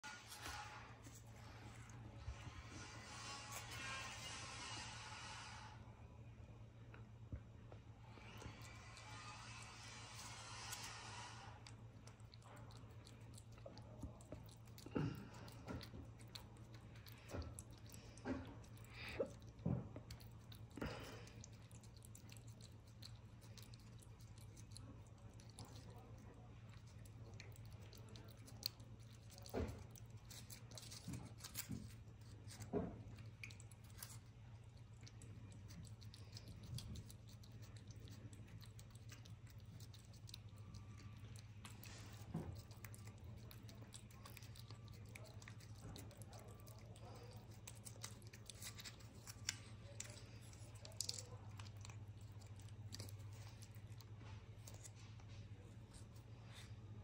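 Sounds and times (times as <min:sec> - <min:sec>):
cat licking: 0:08.1 - 0:56.8.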